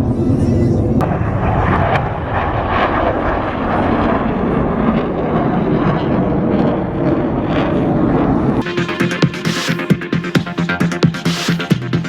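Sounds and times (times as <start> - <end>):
aircraft engine noise: 0.0 - 12.0.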